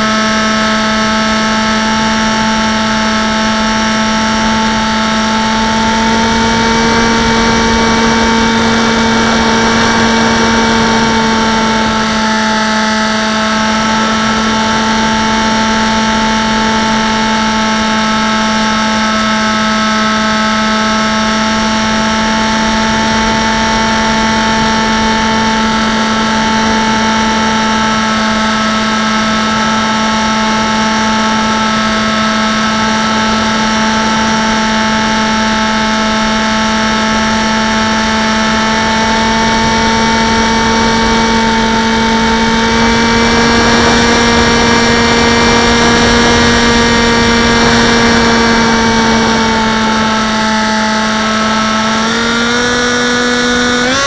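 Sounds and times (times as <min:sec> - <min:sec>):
electric motor whining: 0:00.0 - 0:54.0.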